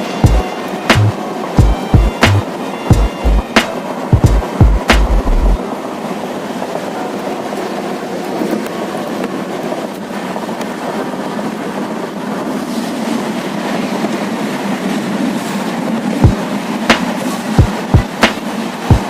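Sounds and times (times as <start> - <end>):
train running on track: 0.0 - 19.0.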